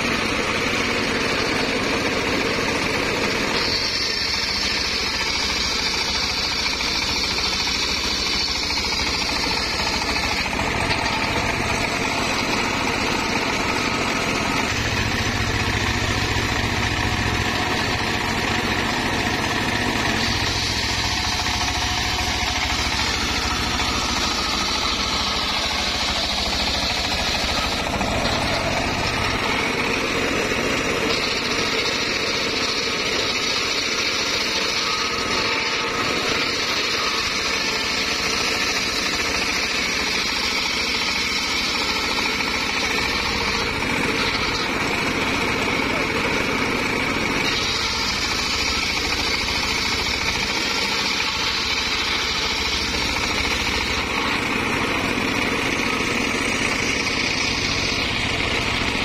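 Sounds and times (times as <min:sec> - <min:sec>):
engine running under load: 0:00.0 - 0:59.0
saw blade whining through wood: 0:00.0 - 0:59.0.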